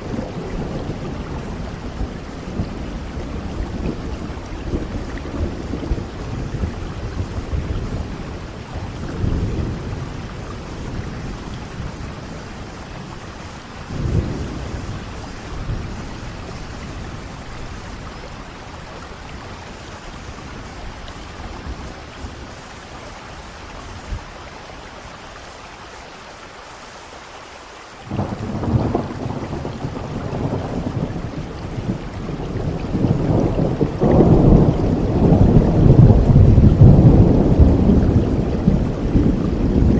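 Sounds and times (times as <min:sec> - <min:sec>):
rolling thunder rumbling: 0:00.0 - 0:25.1, 0:28.0 - 0:39.9
steady rain falling: 0:00.0 - 0:39.9.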